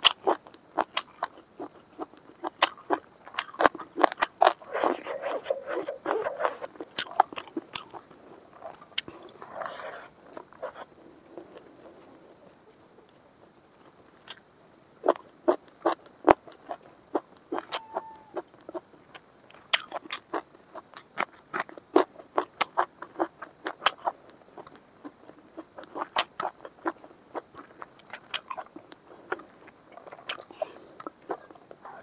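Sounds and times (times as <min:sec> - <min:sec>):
person chewing food: 0:00.0 - 0:12.3, 0:15.0 - 0:32.0.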